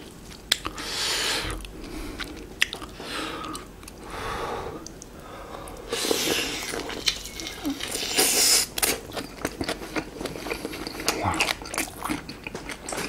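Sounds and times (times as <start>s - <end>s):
person chewing: 0.0s - 4.1s, 4.8s - 13.0s.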